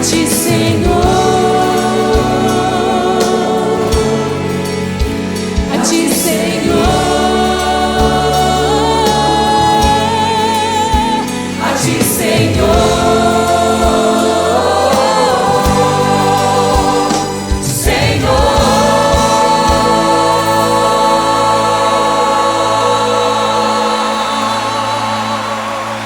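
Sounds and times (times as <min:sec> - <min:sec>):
band playing: 0:00.0 - 0:26.0
choir singing: 0:00.0 - 0:26.0.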